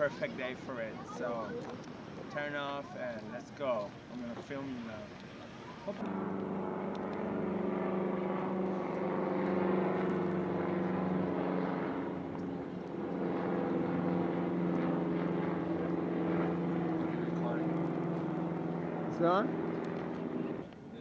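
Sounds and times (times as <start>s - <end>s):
engine droning steadily: 3.2s - 21.0s.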